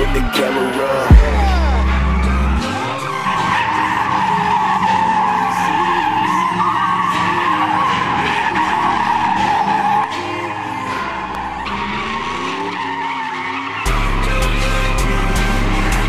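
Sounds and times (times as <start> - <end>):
tires squealing: 0.0 - 16.0.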